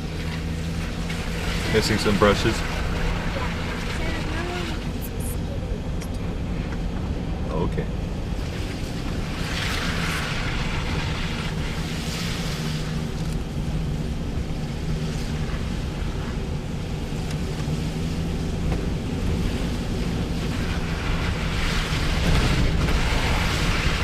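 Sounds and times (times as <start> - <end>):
road and wind noise: 0.0 - 24.0
vehicle engine humming: 0.0 - 24.0.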